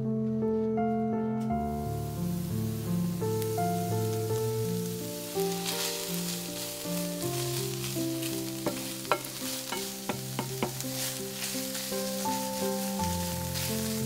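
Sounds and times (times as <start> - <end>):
onion and ham sizzling: 1.6 - 14.0.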